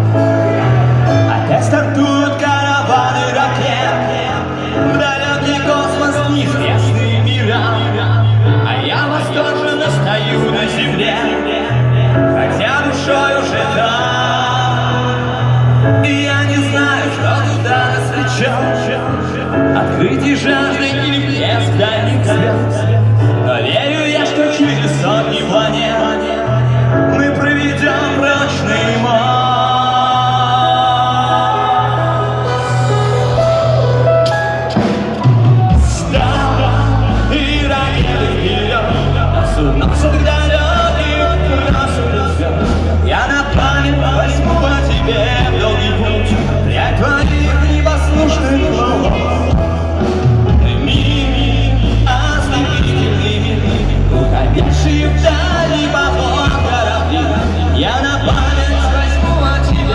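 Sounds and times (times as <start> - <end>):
bass line: 0.0 - 59.9
live rock band playing: 0.0 - 59.9
person singing: 0.0 - 59.9.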